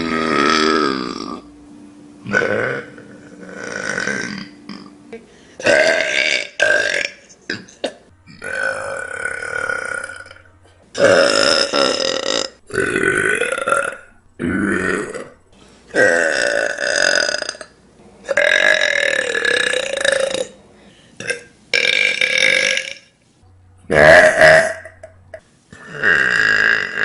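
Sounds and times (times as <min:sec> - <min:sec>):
person burping: 0:00.0 - 0:01.5, 0:02.2 - 0:20.6, 0:21.2 - 0:23.1, 0:23.9 - 0:27.0.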